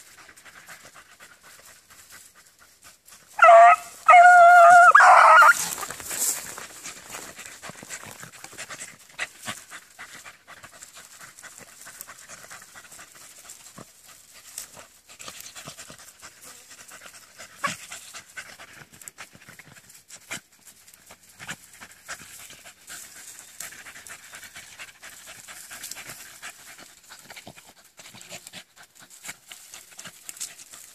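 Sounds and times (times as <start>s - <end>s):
dog panting: 0.0s - 3.5s, 5.5s - 30.9s.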